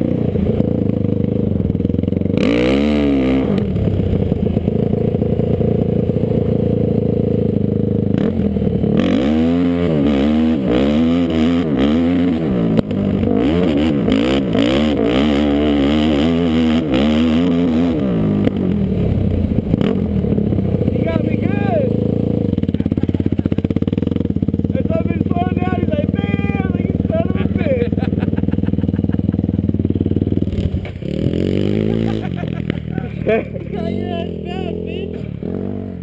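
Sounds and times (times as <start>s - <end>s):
off-road engine revving: 0.0s - 36.0s.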